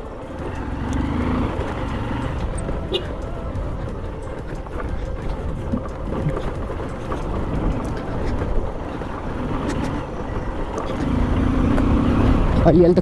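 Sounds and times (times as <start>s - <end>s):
motorcycle engine running: 0.0s - 13.0s
wind and road noise rumble: 0.0s - 13.0s.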